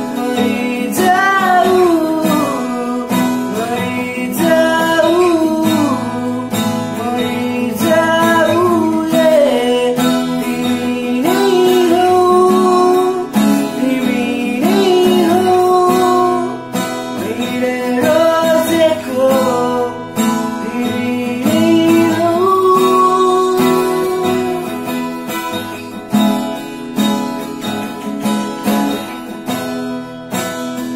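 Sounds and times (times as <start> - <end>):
man singing: 0.0 - 25.8
acoustic guitar strumming: 0.0 - 30.9.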